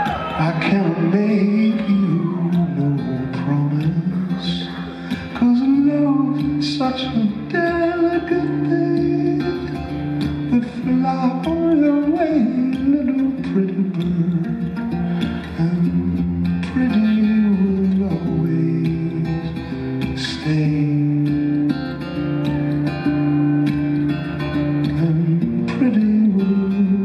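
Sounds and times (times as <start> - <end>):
man singing: 0.0 - 23.7, 24.4 - 27.0
acoustic guitar: 0.0 - 27.0.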